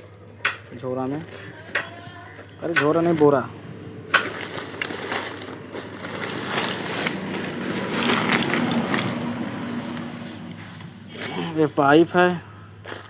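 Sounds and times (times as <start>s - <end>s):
woven sack rustling: 0.1s - 11.7s.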